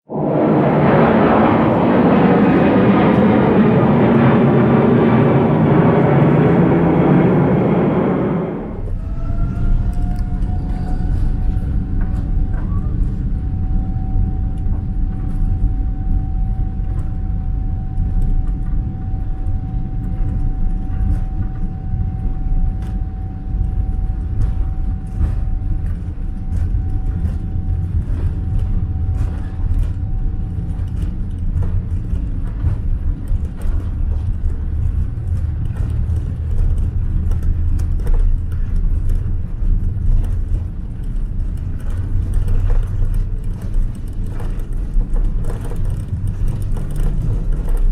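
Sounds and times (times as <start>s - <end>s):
aircraft cabin rumble: 0.1s - 47.9s
thin steady whine: 0.1s - 47.9s.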